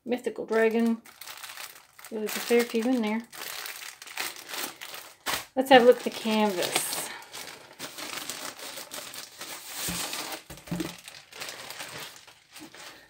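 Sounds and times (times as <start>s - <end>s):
plastic packaging crinkling: 0.5s - 13.0s.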